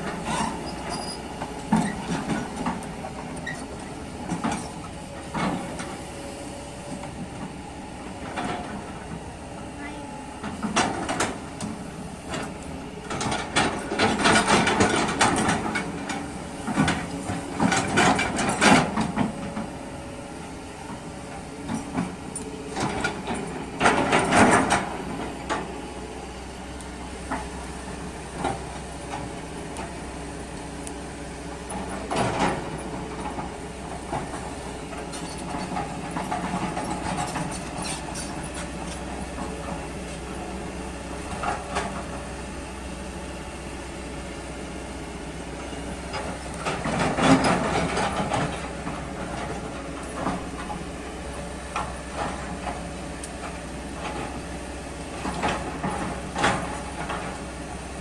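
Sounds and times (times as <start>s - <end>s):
excavator running: 0.0s - 58.0s.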